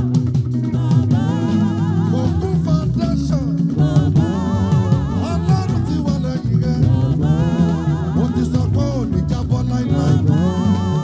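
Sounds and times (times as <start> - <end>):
gospel band playing: 0.0 - 11.0
lead vocal singing: 0.0 - 11.0.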